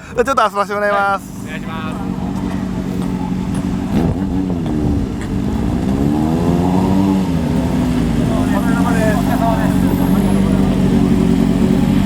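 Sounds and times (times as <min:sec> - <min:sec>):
motorcycle engines revving: 0:00.9 - 0:12.0.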